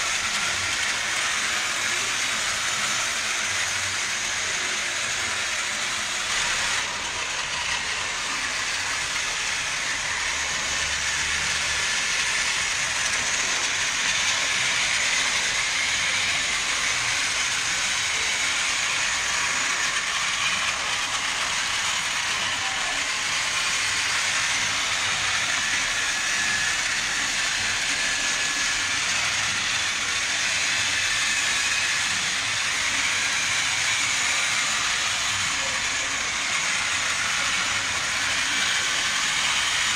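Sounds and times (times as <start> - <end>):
toy train motor whirring: 0.0 - 39.9.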